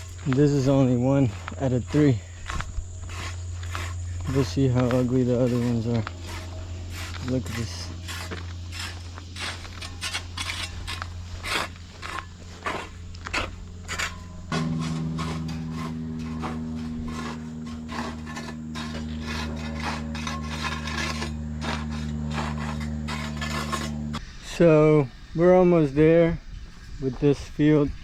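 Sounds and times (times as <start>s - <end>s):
tools scraping dirt: 0.0s - 24.3s.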